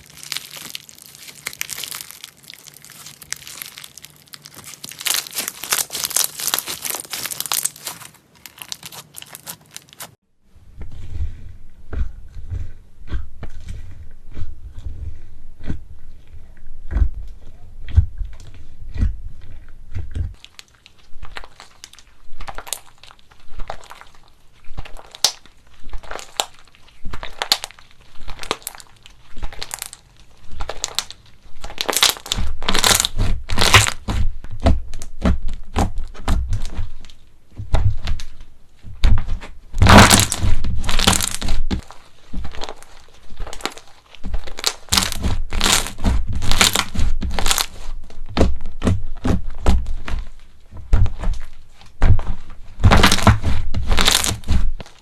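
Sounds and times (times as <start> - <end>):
slime crackling and crunching: 0.0 - 10.2, 10.8 - 55.0.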